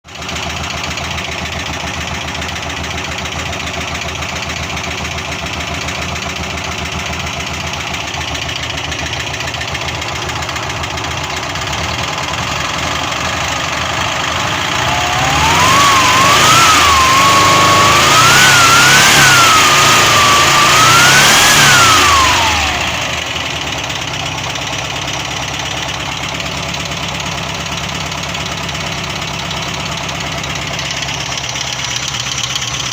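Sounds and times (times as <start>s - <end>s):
engine idling with knock: 0.1s - 18.5s, 19.1s - 32.9s
engine revving: 0.2s - 32.9s.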